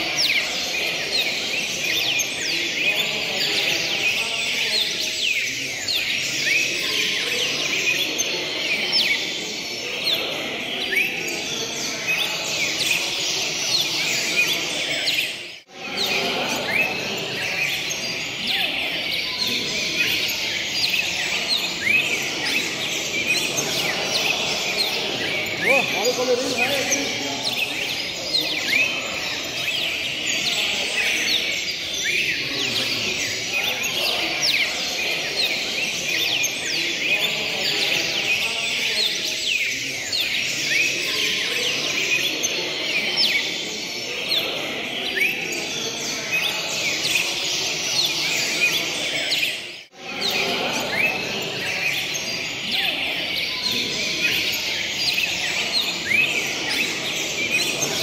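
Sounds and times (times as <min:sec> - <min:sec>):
songbirds chorus: 0:00.0 - 0:58.0.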